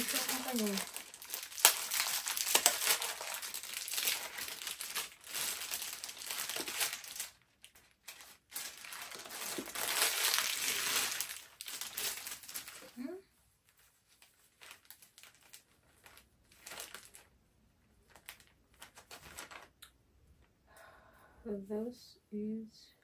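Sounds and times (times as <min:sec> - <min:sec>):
plastic packaging crinkling: 0:00.0 - 0:19.8.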